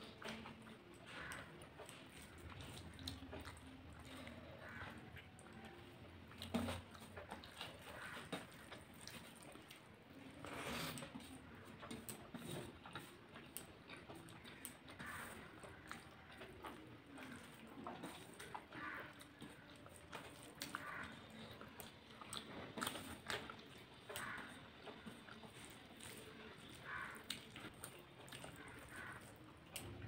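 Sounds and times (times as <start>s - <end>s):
chewing and wet mouth noises: 0.0s - 30.0s
fingers mixing food on steel plate: 0.0s - 30.0s.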